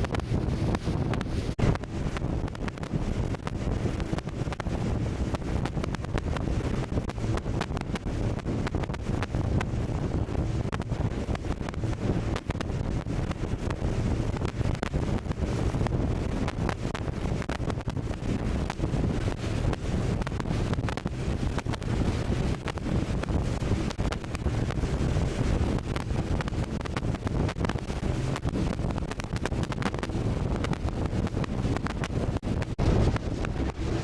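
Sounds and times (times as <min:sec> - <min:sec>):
speedboat rushing: 0:00.0 - 0:34.0
wind buffeting microphone: 0:00.0 - 0:34.0.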